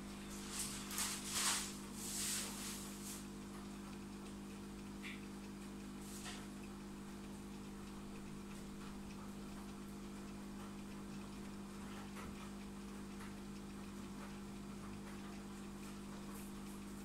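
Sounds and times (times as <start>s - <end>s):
aquarium pump hum: 0.0s - 17.0s
faint ticks: 2.6s - 17.0s.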